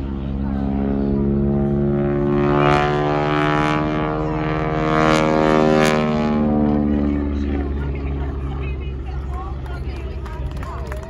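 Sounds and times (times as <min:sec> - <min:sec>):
biplane engine droning: 0:00.0 - 0:11.0.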